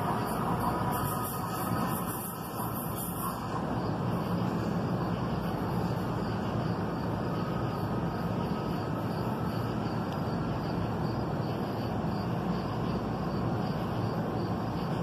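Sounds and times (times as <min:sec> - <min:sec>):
insects chirping faintly: 0:00.0 - 0:15.0
train idling hum: 0:00.0 - 0:15.0.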